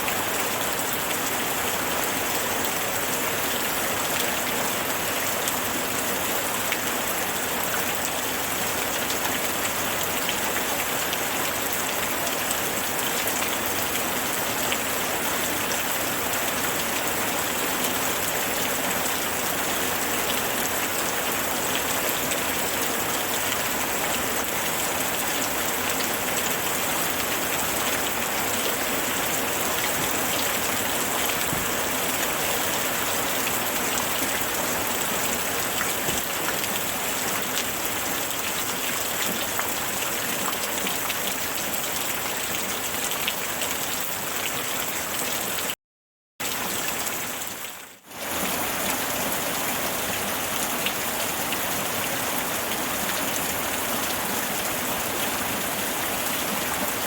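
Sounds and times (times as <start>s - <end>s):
steady rain falling: 0.0s - 45.8s, 46.5s - 57.0s.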